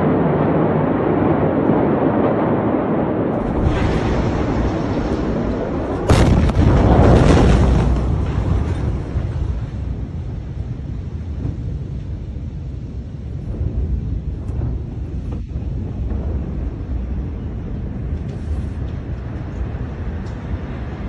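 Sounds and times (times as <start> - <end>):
explosion boom: 0.0 - 21.0
heavy low rumble: 0.0 - 21.0
steady background noise: 0.0 - 21.0.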